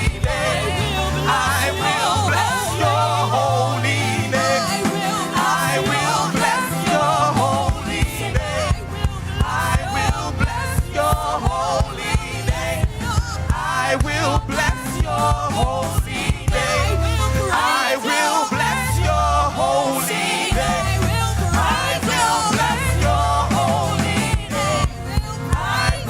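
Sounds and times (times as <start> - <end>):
gospel singing over bass: 0.0 - 26.0
steady drum beat: 0.0 - 26.0.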